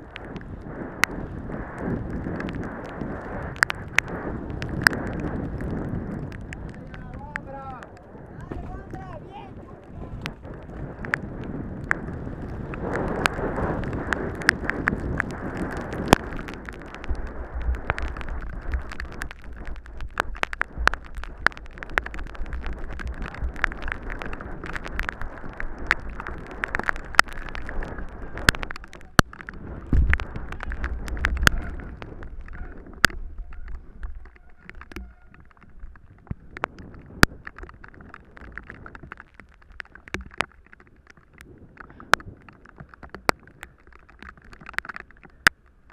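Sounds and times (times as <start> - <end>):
tyre and wind rush: 0.0 - 45.6
bike rattling over bumps: 0.0 - 45.9.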